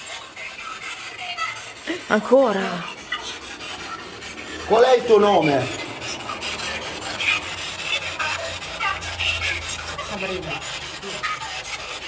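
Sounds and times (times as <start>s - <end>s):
scratchy rubbing and rustling: 0.0s - 12.0s.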